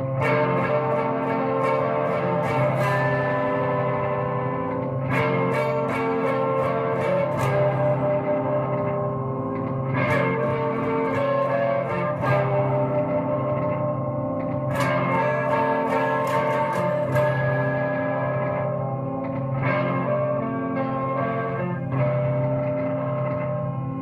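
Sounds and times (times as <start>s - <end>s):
guitar music with echo: 0.0s - 24.0s.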